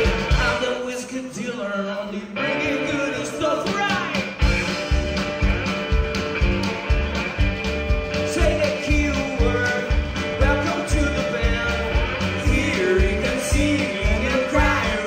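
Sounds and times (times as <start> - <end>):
driving rock beat: 0.0 - 15.0
guitar lines: 0.0 - 15.0.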